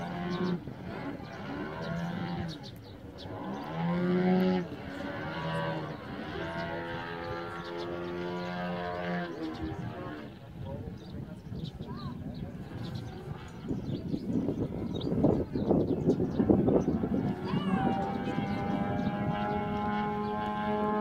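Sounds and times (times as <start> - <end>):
model airplane engine drone: 0.0 - 21.0.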